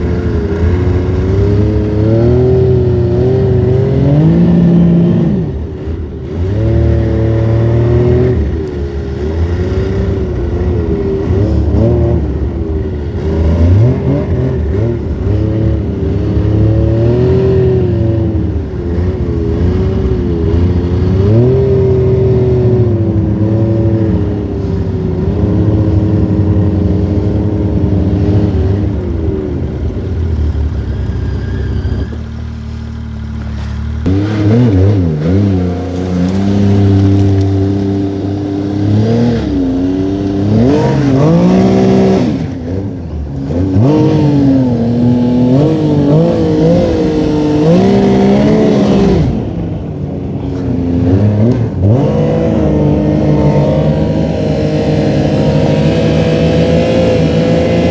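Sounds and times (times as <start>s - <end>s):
snowmobile engine revving: 0.0s - 57.9s.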